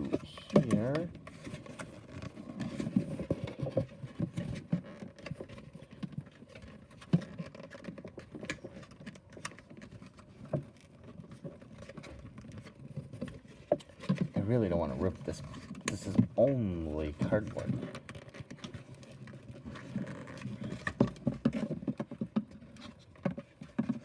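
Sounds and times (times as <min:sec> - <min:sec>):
cardboard pieces tapping and scraping: 0:00.0 - 0:24.0.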